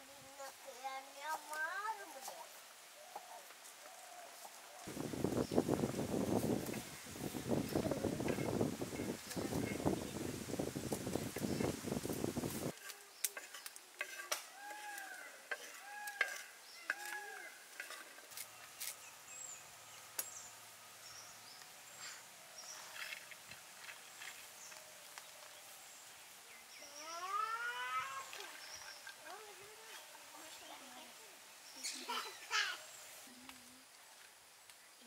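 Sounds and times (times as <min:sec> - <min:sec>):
small birds chirping: 0:00.2 - 0:35.0.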